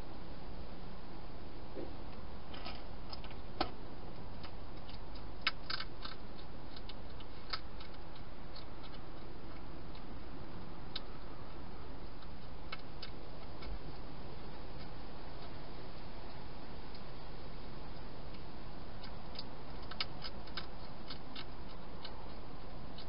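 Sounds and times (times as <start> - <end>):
steady hiss: 0.0 - 21.0
hedgehog chewing crunches: 2.5 - 23.0.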